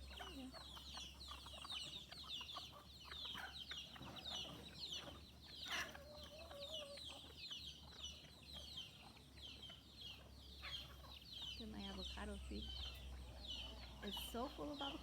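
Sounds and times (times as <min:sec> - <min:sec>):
chicken calling: 0:00.0 - 0:15.0
chicks peeping: 0:00.0 - 0:15.0.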